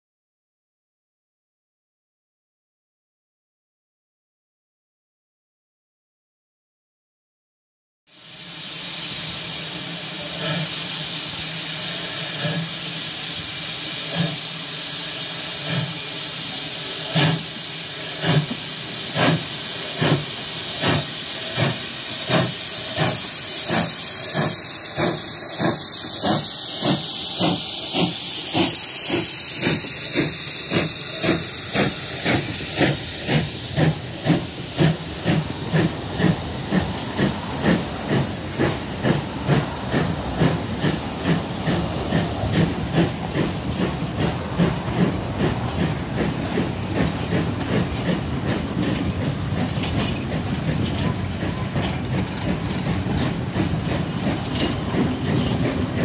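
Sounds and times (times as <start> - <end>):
steam hissing: 8.1 - 56.0
steam locomotive exhaust chuffs: 8.1 - 56.0.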